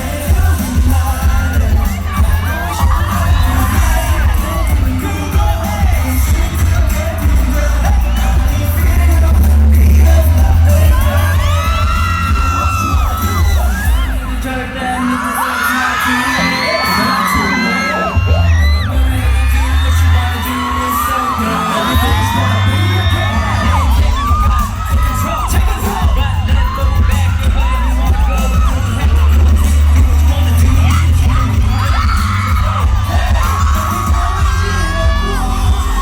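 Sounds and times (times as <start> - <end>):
crowd cheering and whooping: 0.0 - 36.0
pop song with heavy bass: 0.0 - 36.0.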